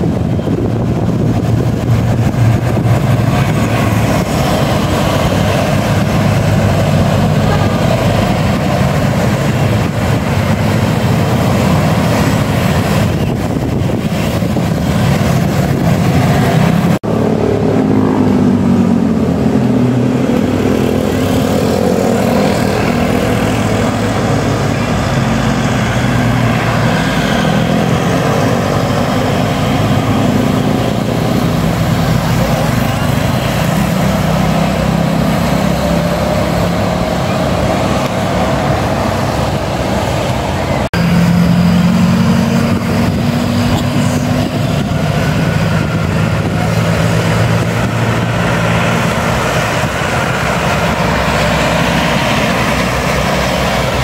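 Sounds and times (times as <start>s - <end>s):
bus engine running: 0.0s - 54.0s
engine pitch rising and falling: 0.0s - 54.0s.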